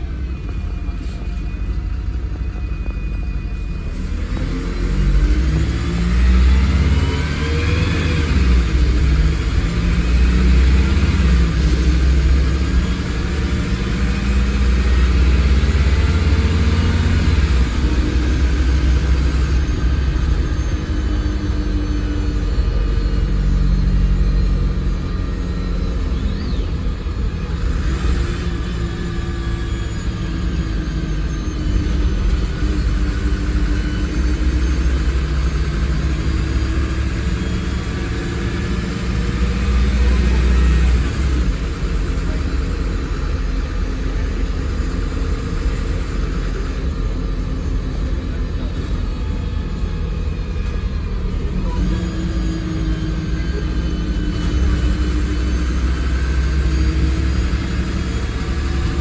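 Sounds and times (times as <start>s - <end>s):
bus diesel engine rumbling: 0.0s - 59.0s.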